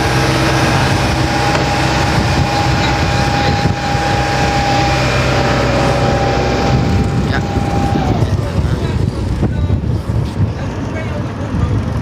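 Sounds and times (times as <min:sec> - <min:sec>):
boat engine low hum: 0:00.0 - 0:12.0
engine whine: 0:00.0 - 0:12.0.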